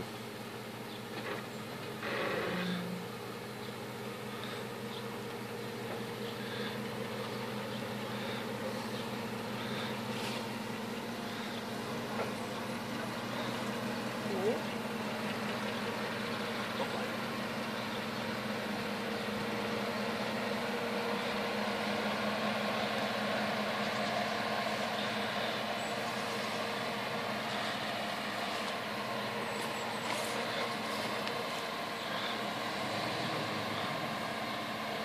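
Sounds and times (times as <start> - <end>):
suv engine running at low revs: 0.0 - 35.0.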